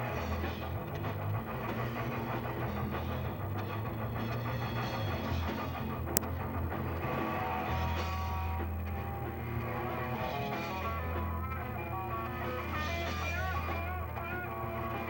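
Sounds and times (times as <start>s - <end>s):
electric guitar with bent notes: 0.0s - 15.0s
steady low bass: 0.0s - 15.0s.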